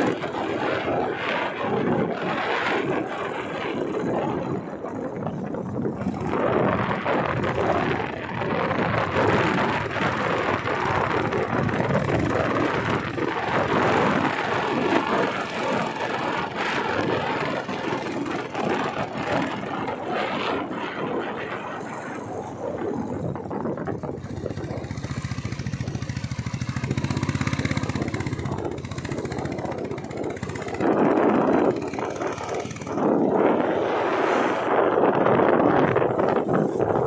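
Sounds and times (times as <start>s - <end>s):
vehicle driving on road: 0.0s - 37.0s.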